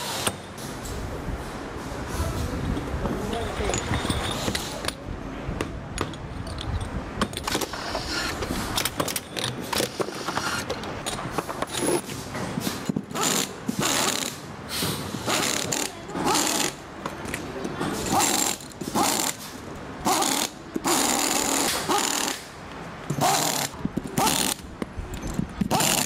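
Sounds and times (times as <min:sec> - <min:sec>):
metal parts clicking and clinking: 0:02.6 - 0:05.0, 0:06.0 - 0:14.4, 0:15.3 - 0:26.0.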